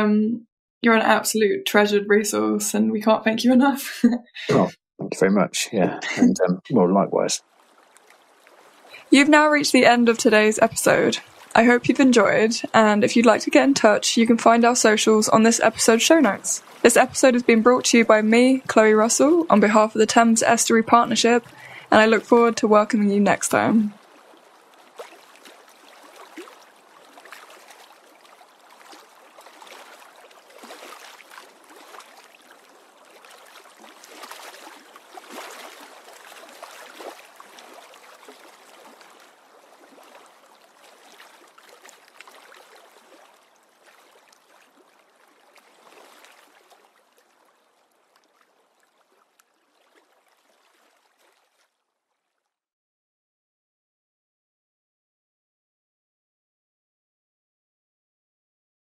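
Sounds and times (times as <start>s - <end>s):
water splashing: 4.4s - 51.8s.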